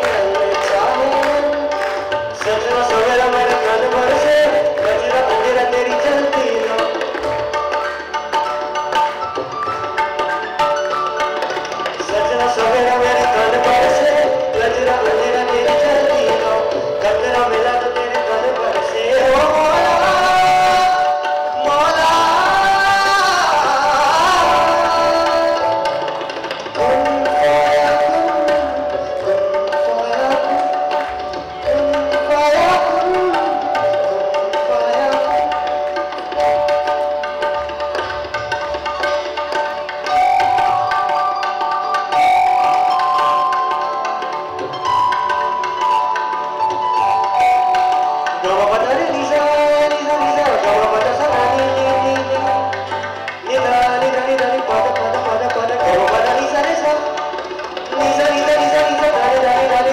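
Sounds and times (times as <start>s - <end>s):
held keyboard notes: 0.0s - 59.9s
tabla strokes: 0.0s - 59.9s.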